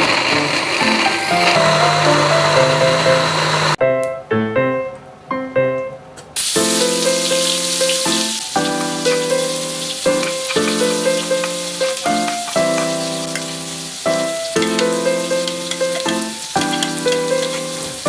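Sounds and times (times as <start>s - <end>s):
food sizzling in hot pan: 0.0s - 3.8s, 6.4s - 18.0s
background music with simple melody: 0.0s - 18.0s.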